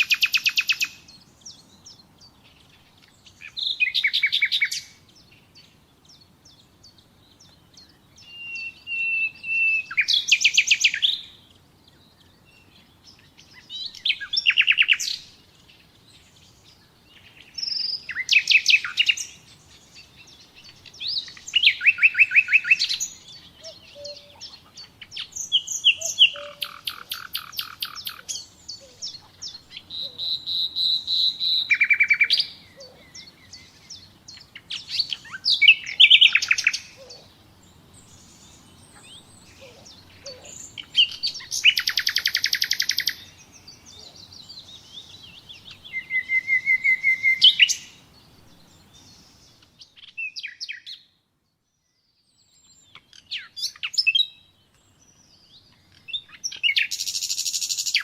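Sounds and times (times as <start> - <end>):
nightingale singing trills: 0.0 - 58.0.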